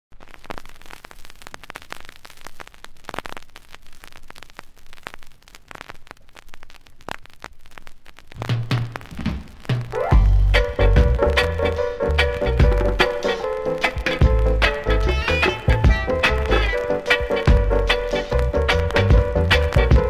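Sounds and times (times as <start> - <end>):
vinyl record crackle and hiss: 0.0 - 20.0.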